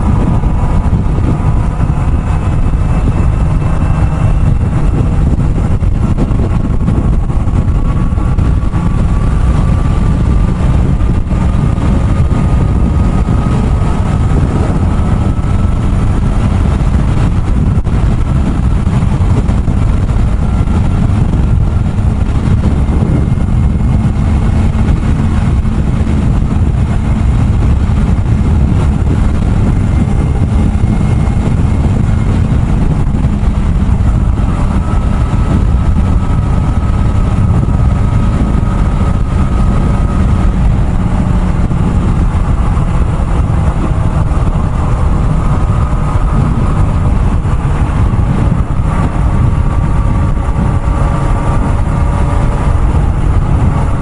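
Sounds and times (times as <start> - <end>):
heavy wind noise: 0.0 - 54.0
motorcycle engine whine: 0.0 - 54.0
road rumble: 0.0 - 54.0.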